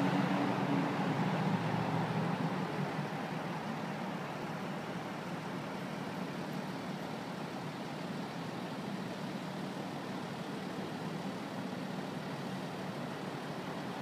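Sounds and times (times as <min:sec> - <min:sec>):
city street traffic: 0:00.0 - 0:14.0
low engine hum: 0:00.0 - 0:14.0.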